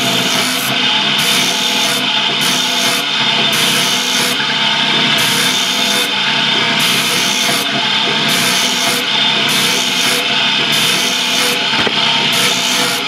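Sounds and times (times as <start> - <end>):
machine hum: 0.0 - 13.0
wooden rasping of cane shaving: 0.0 - 13.0.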